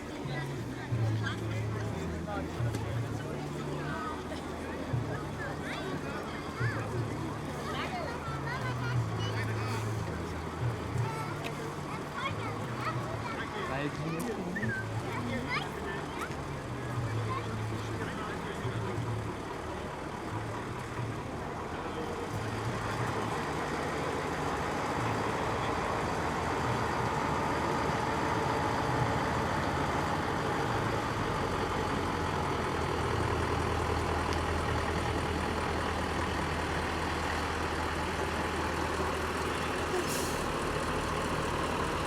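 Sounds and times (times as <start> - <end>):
heavy vehicle engine running: 0.0 - 42.0.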